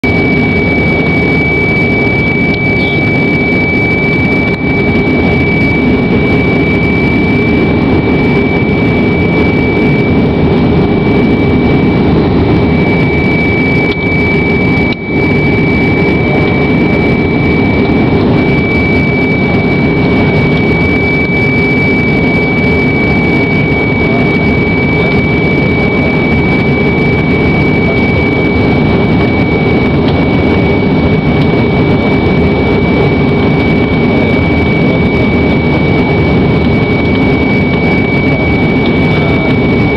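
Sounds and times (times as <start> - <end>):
high-pitched whine: 0.0 - 39.9
jet cabin roar: 0.0 - 39.9.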